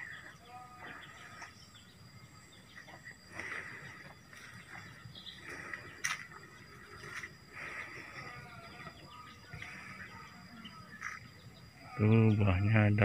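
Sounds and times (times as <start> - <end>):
bird chirps: 0.0 - 13.0
faint outdoor ambience: 0.0 - 13.0.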